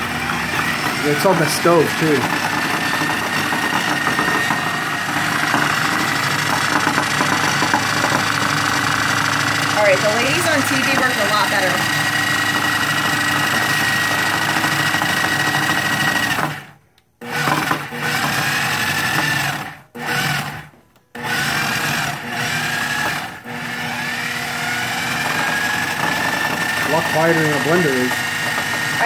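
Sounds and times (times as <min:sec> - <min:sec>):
food processor motor whining: 0:00.0 - 0:29.0.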